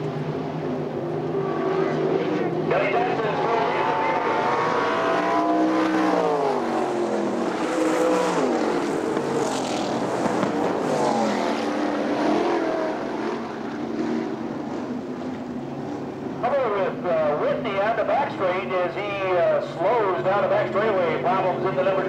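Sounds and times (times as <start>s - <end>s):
race car engines passing: 0.0s - 22.0s.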